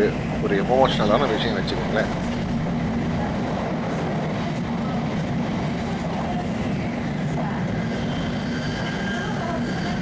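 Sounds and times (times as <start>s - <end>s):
bullet train running at speed: 0.0s - 10.0s.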